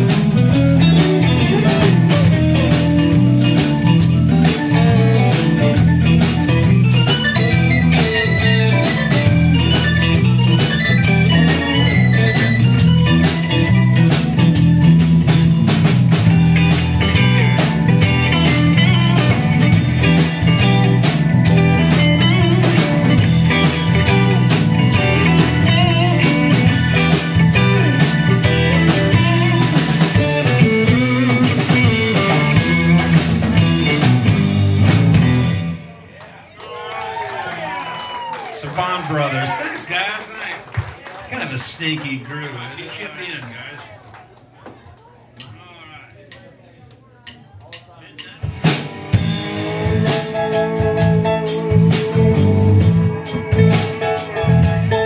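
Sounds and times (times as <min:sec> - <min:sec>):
blues rock band playing: 0:00.0 - 0:36.1, 0:37.0 - 0:43.5, 0:47.3 - 0:55.0.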